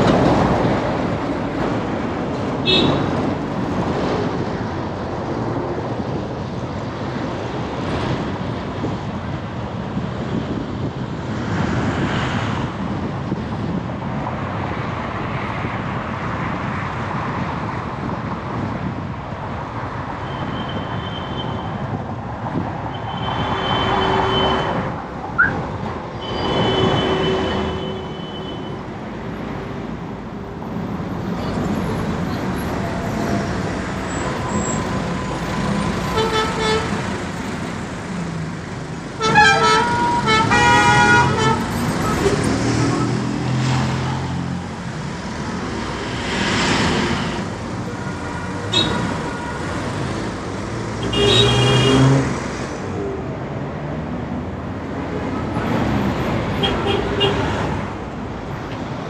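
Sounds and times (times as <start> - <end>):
road traffic rumble: 0.0 - 59.0
vehicles passing: 0.0 - 59.0.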